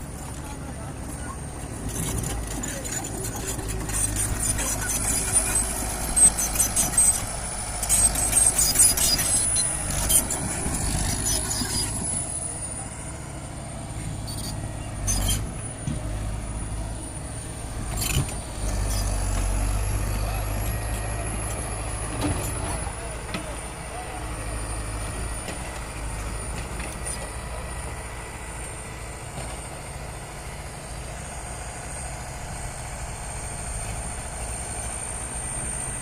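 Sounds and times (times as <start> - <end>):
heavy machinery engine rumble: 0.0 - 36.0.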